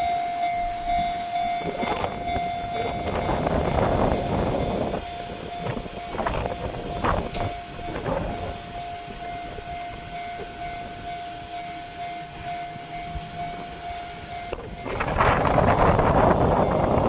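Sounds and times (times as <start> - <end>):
level-crossing alarm dinging: 0.0 - 17.0
low rumble of rail traffic: 0.0 - 17.0.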